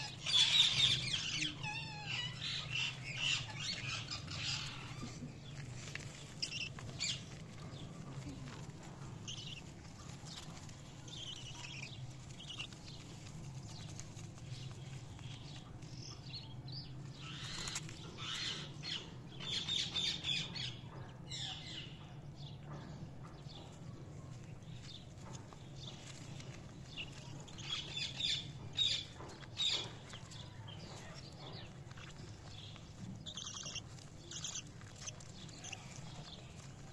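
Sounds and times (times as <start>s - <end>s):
budgerigars chirping: 0.0s - 7.9s, 8.6s - 22.0s, 26.8s - 36.9s
steady low hum: 0.0s - 36.9s.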